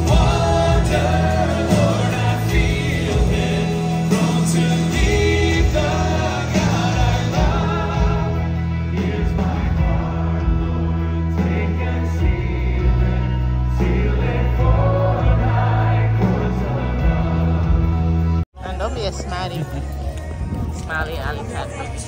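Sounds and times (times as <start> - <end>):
low bass: 0.0 - 22.0.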